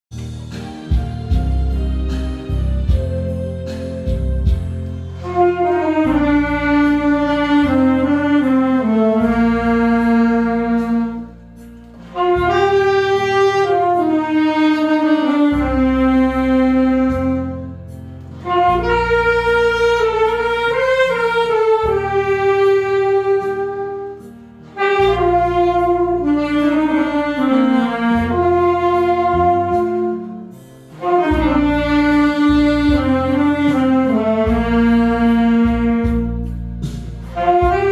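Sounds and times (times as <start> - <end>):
backing track with bass: 0.1 - 37.9
saxophone slow melody: 0.1 - 37.9.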